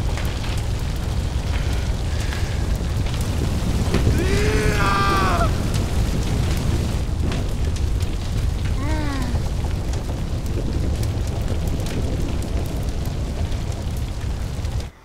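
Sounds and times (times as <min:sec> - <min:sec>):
fire roaring and crackling: 0:00.0 - 0:15.0.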